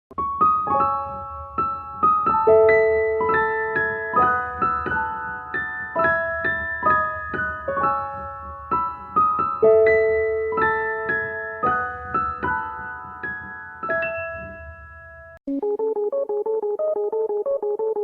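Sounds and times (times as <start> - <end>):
piano melody: 0.1 - 18.0.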